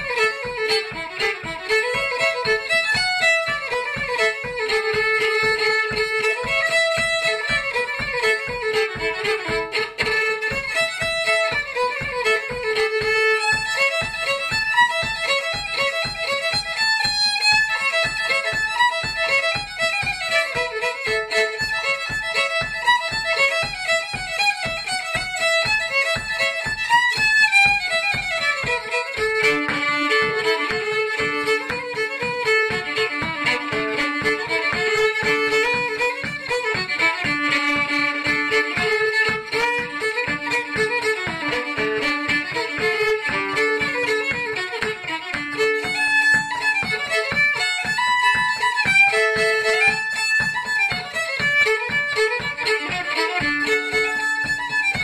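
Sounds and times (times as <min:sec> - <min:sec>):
solo fiddle playing: 0:00.0 - 0:55.0.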